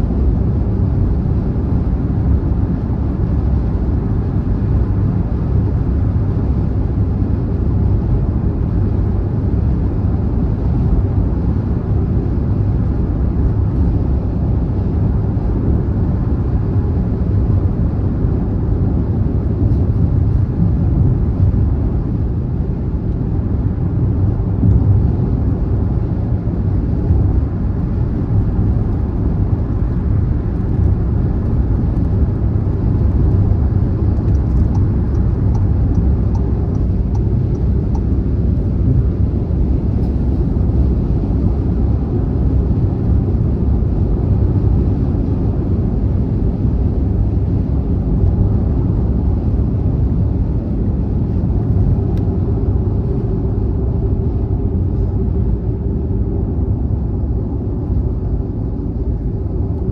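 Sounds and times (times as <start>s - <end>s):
road and tyre rumble inside car: 0.0s - 59.9s.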